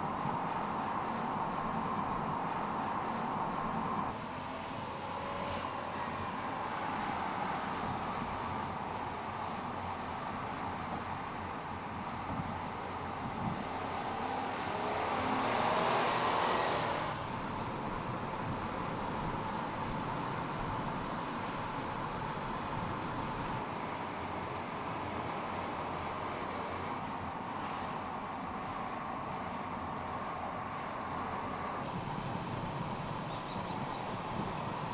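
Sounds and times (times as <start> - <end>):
car engine and road noise: 0.0 - 34.9.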